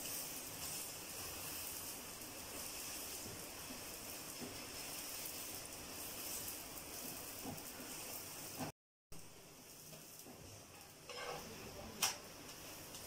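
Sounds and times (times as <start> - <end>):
bread sizzling in oil: 0.0 - 13.0.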